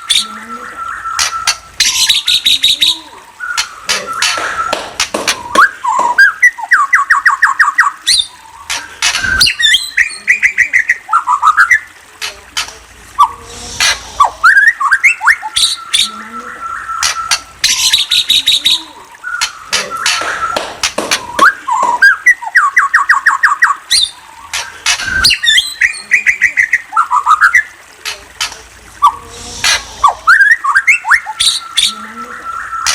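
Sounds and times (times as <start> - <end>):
songbird singing: 0.0 - 13.6, 14.2 - 32.9.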